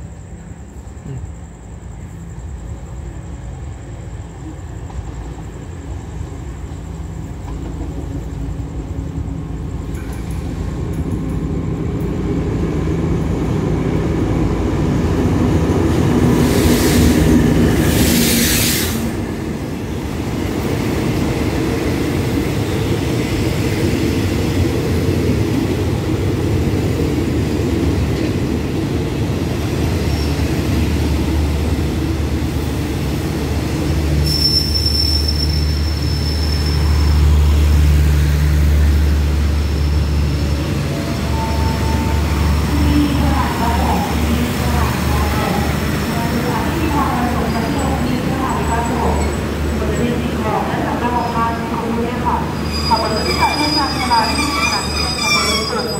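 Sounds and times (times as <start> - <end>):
train carriages rolling by: 0.0 - 55.9.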